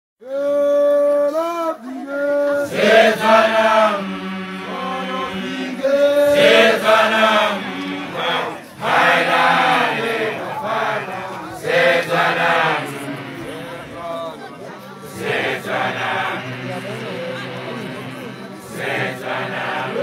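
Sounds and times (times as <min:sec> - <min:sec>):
many voices singing a chant: 0:01.0 - 0:20.0.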